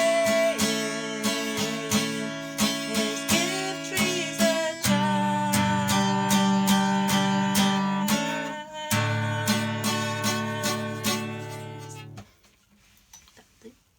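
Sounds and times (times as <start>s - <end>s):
acoustic guitar strumming: 0.0s - 12.3s.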